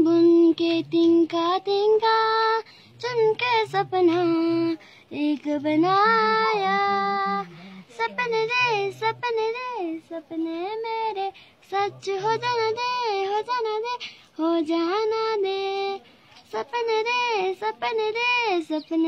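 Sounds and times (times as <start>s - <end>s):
child singing slow melody: 0.0s - 19.0s.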